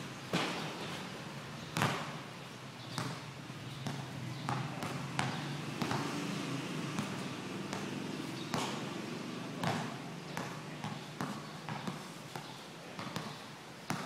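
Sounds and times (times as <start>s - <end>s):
basketball bouncing on concrete: 1.7s - 2.2s, 2.9s - 14.0s.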